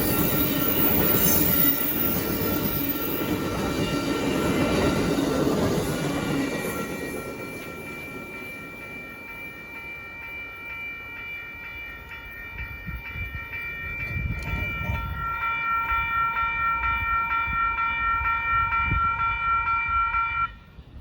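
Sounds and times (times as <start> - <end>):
crossing warning bell ringing: 0.0 - 20.8
train rumble: 0.0 - 21.0.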